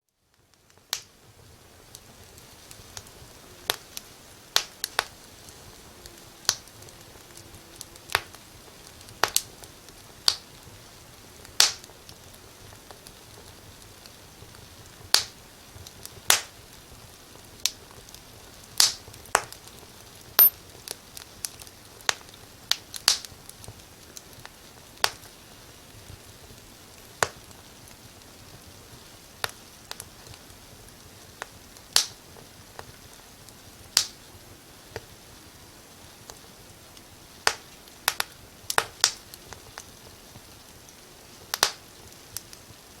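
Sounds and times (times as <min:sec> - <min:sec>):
firewood crackling and popping: 0:00.2 - 0:43.0.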